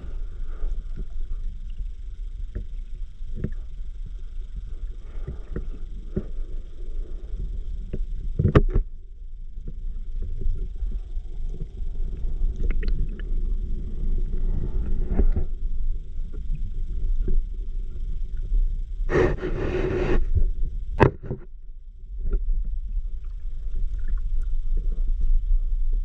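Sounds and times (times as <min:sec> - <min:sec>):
muffled underwater water rumble: 0:00.0 - 0:26.0.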